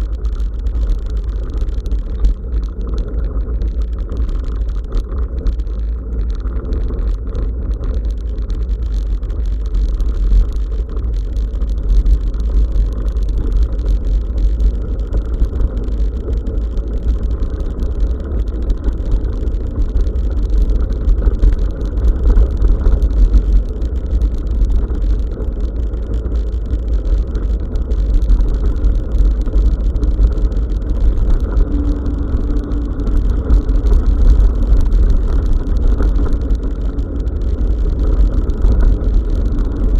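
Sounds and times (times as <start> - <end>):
bicycle tyre noise on track: 0.0 - 39.9.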